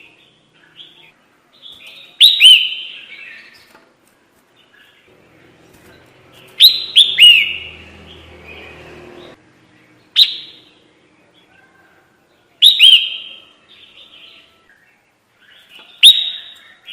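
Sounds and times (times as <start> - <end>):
bird chirping: 0.0 - 3.8, 4.5 - 16.9.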